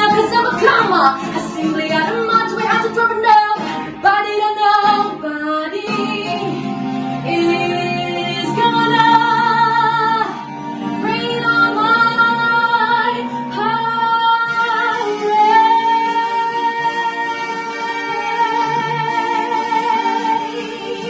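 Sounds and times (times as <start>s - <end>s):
instrumental backing: 0.0s - 21.0s
woman singing: 0.0s - 21.0s.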